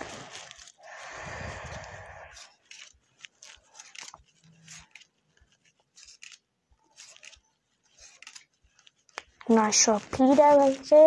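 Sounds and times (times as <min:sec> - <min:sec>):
cards sliding and snapping: 0:00.0 - 0:09.5.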